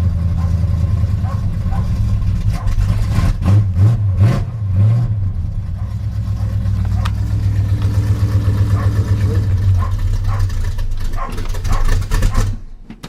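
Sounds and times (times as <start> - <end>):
pickup engine revving and idling: 0.0 - 12.8.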